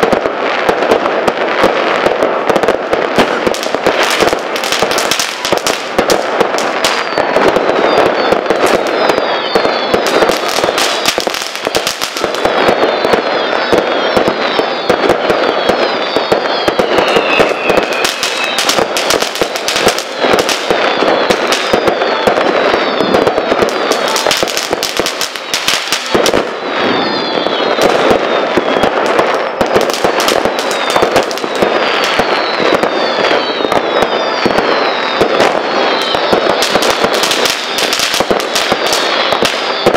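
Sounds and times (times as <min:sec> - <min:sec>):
fireworks bangs and crackles: 0:00.0 - 0:39.9
fireworks falling whistles: 0:00.0 - 0:39.9.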